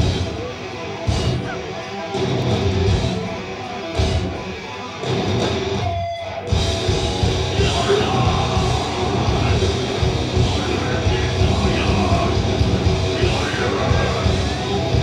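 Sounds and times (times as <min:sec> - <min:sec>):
metal band playing live: 0:00.0 - 0:15.0.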